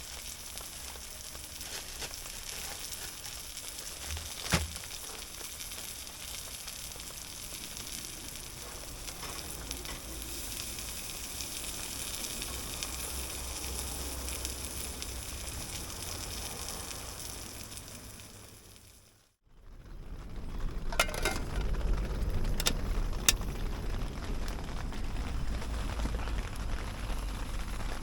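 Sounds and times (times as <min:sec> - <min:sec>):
rain hissing: 0:00.0 - 0:19.2, 0:20.6 - 0:28.0.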